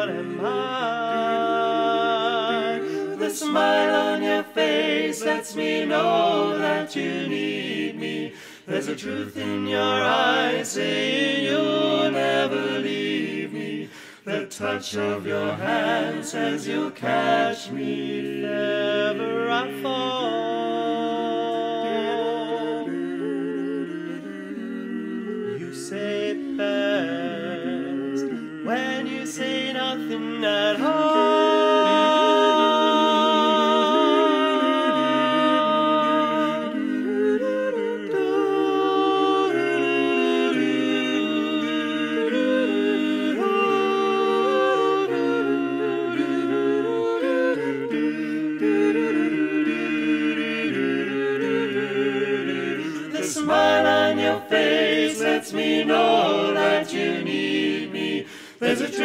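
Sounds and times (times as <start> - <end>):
vocal quartet singing harmony: 0.0 - 59.0.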